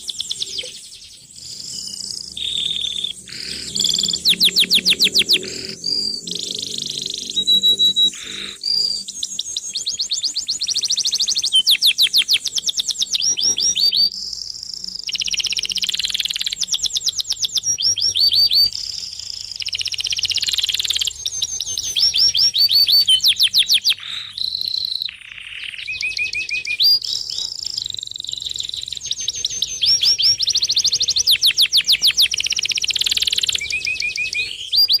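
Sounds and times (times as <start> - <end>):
many birds chirping: 0.0 - 35.0
rapid high bird trills: 0.0 - 35.0.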